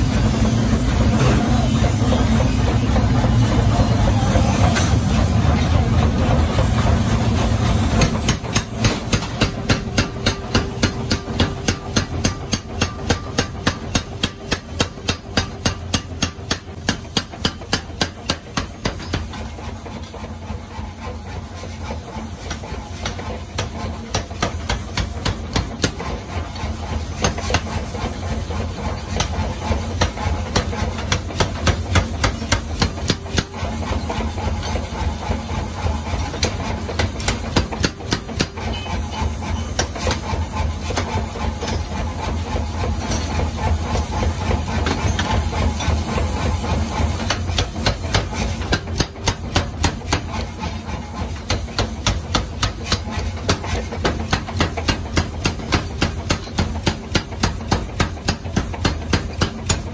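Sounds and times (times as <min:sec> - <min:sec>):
power hammer pounding steel: 0:00.0 - 0:59.9.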